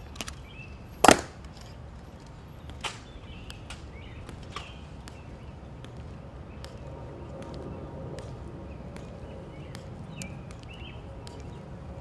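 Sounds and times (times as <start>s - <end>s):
metal-tapped heels on stone: 1.0s - 12.0s.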